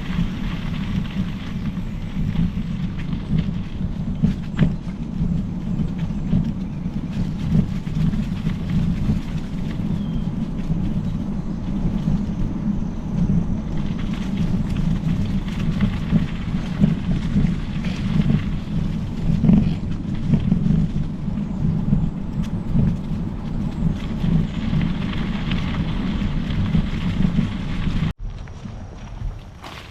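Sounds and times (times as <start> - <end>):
bike tyres rumbling: 0.0 - 29.9
wind buffeting microphone: 0.0 - 29.9.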